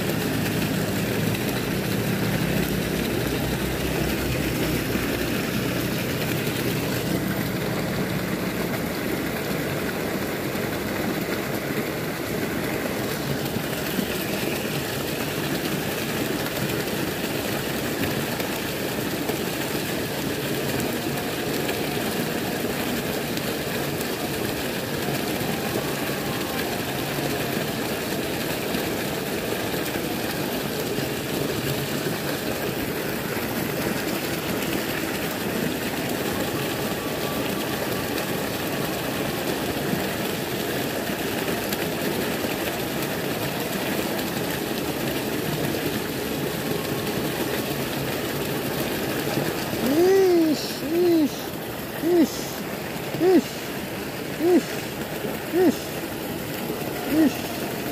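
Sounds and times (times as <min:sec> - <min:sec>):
water rushing over a weir: 0:00.0 - 0:57.9.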